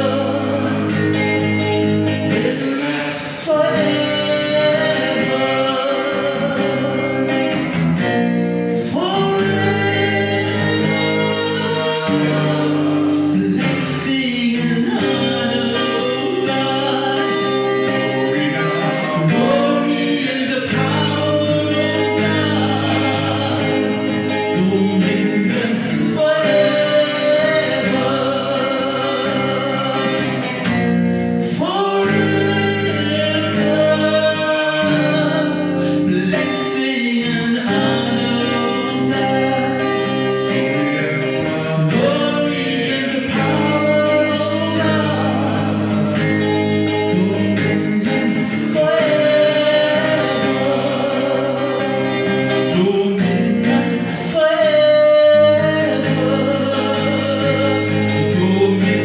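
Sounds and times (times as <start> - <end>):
woman singing into a microphone: 0.0 - 59.0.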